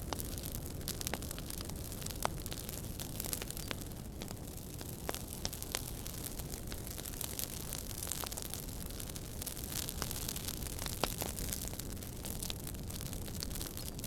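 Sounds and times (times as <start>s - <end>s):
sharp pops and snaps of fire: 0.0s - 14.0s
steady hiss and low rumble: 0.0s - 14.0s
wood fire crackling: 0.0s - 14.0s.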